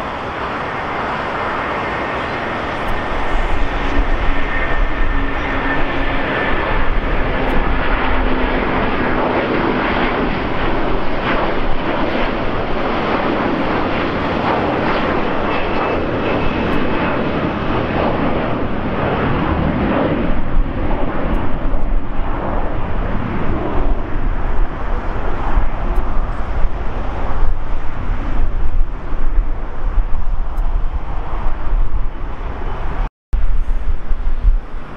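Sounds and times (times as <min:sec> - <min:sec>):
jet engine roar: 0:00.0 - 0:34.9
jet engine whine: 0:00.0 - 0:34.9.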